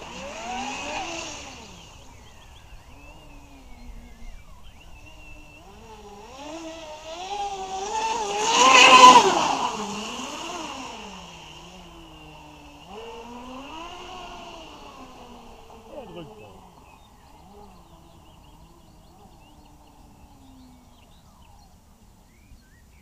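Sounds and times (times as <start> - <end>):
speedboat motor whine: 0.0 - 22.7.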